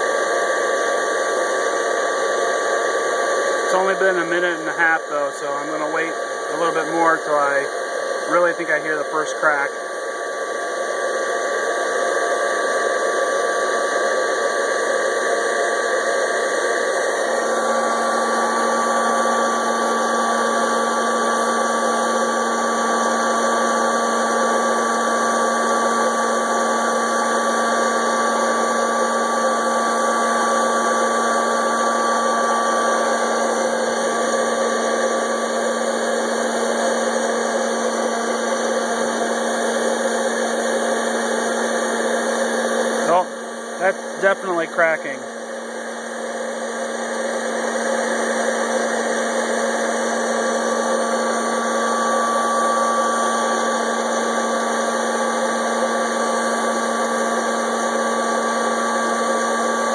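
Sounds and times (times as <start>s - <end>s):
popcorn popper fan running: 0.0s - 59.9s.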